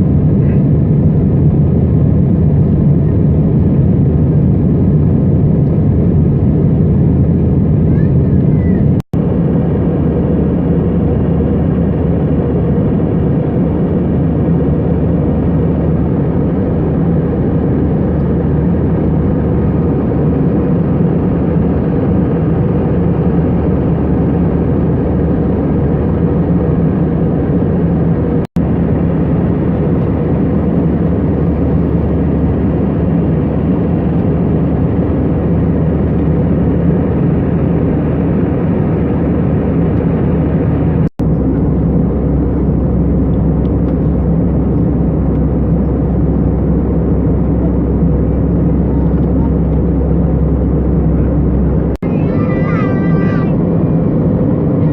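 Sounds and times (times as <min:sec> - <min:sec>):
airplane cabin engine drone: 0:00.0 - 0:54.9.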